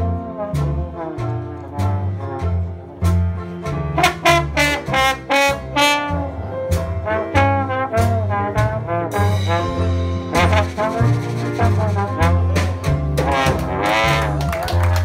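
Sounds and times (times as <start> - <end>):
brass horns melody: 0.0 - 14.6
jazz band playing: 0.0 - 15.0
walking bass notes: 0.0 - 15.0.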